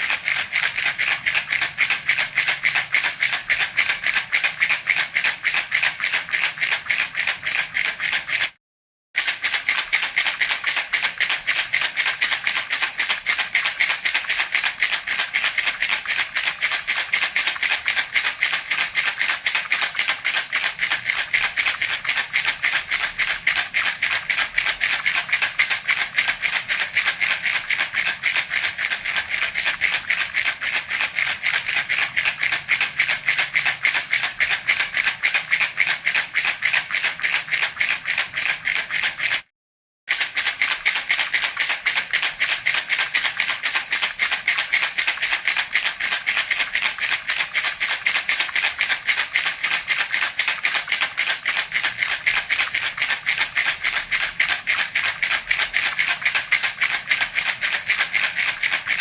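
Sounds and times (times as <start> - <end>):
baby rattle shaken: 0.0 - 8.6, 9.2 - 39.5, 40.1 - 59.0.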